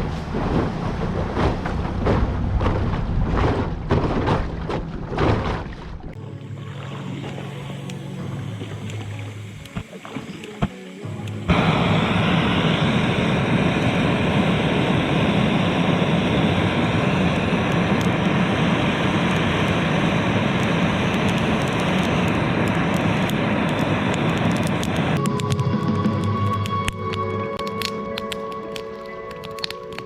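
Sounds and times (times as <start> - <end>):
motorboat engine drone: 0.0 - 27.3.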